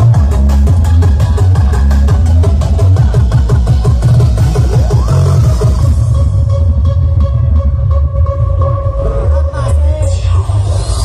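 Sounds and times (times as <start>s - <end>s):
loud electronic dance music: 0.0s - 11.0s.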